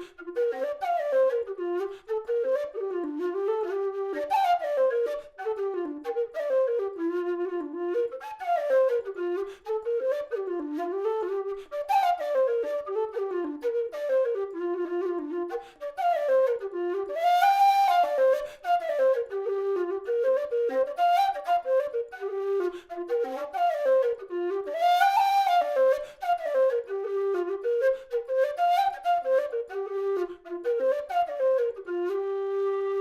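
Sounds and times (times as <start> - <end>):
low whistle playing a tune: 0.0 - 33.0.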